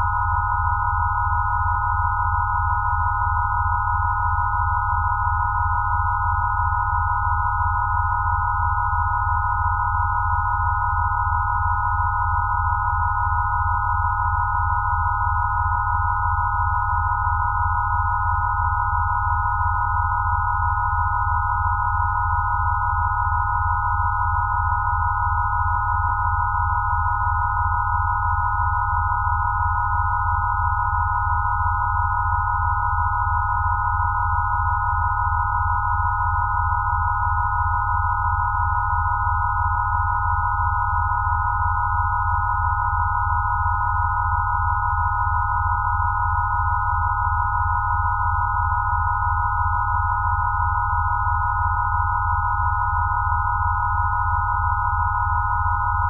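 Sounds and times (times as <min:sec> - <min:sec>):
steady sine tones: 0:00.0 - 0:56.0.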